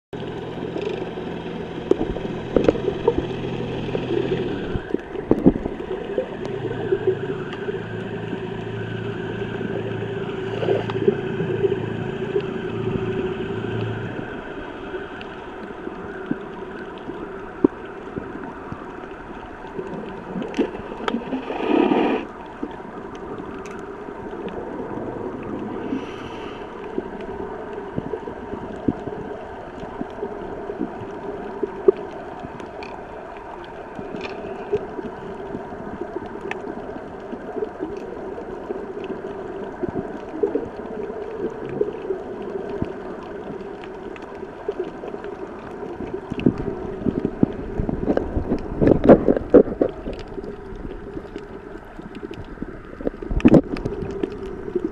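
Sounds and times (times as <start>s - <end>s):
underwater hum with held tones: 0.1s - 54.9s
gurgling water rush: 0.2s - 54.9s
low rumble: 0.2s - 54.9s.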